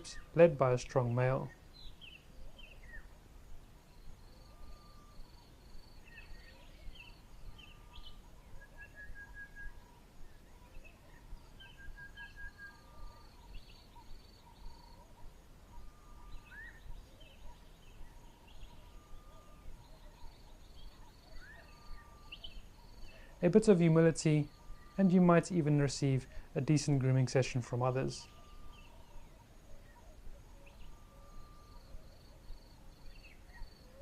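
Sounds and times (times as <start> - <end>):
faint steady hiss: 0.0 - 34.0
birds whistling and chirping: 1.3 - 3.1, 4.2 - 25.5, 27.9 - 34.0.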